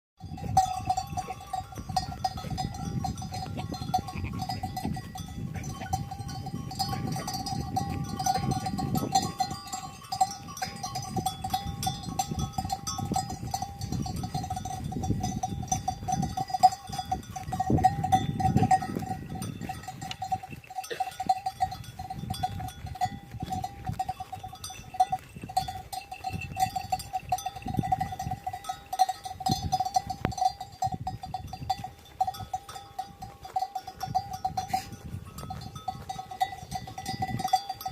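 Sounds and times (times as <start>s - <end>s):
sheep bells clinking: 0.2s - 37.9s.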